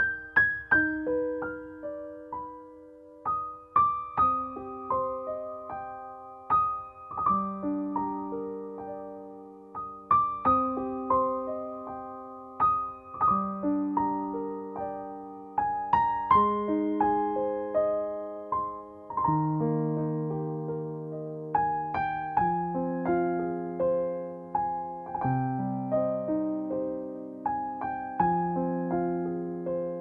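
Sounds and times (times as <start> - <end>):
slow gentle piano music: 0.0 - 30.0.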